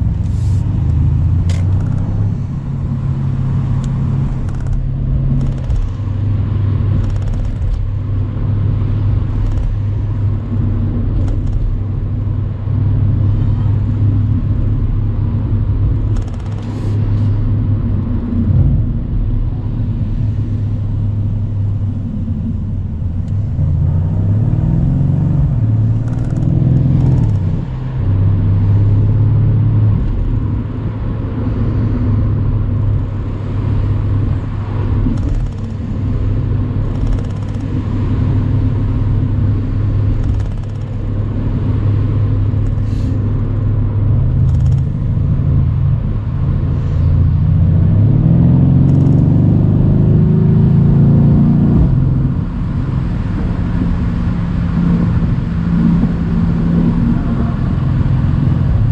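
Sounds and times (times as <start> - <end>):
car engine cruising: 0.0 - 58.9.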